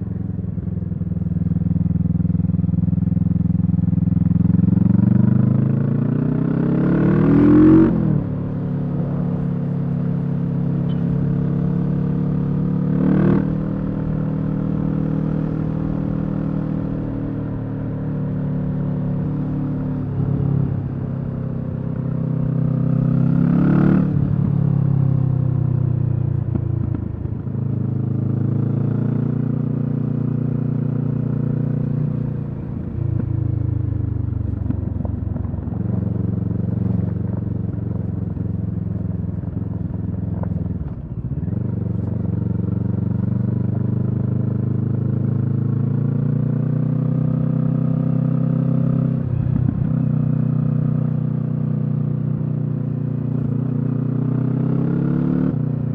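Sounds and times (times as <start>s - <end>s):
motorcycle engine revving: 1.1s - 55.9s.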